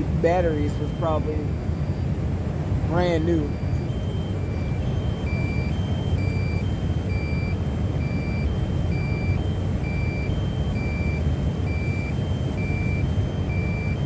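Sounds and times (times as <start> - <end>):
alternating warning beeps: 0.0 - 14.0
steady low rumble: 0.0 - 14.0.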